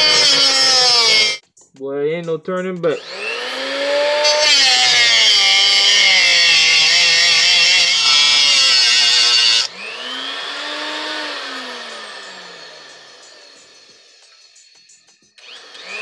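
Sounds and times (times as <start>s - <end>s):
angle grinder cutting metal: 0.0s - 1.4s, 2.8s - 14.8s, 15.4s - 16.0s.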